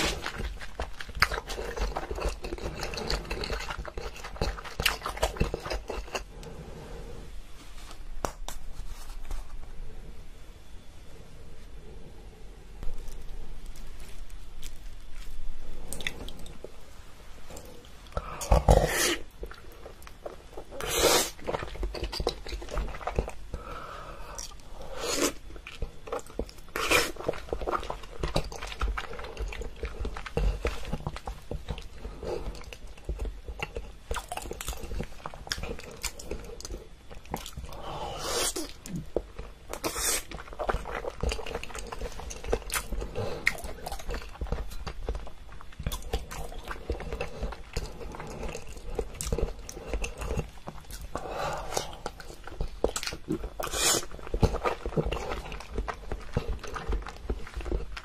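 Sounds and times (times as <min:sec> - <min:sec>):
person chewing and crunching food: 0:00.0 - 0:07.0, 0:12.8 - 0:58.0.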